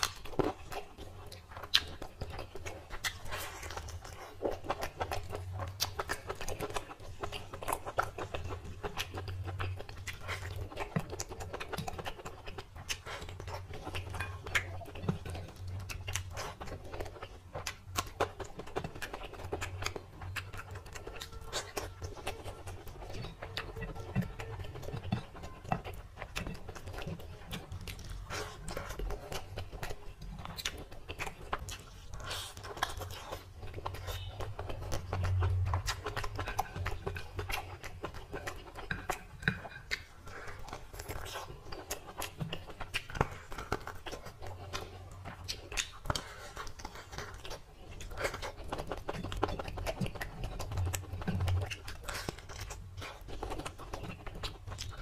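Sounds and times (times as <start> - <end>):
chewing: 0.0 - 55.0
fingers squishing rice and curry: 0.0 - 55.0.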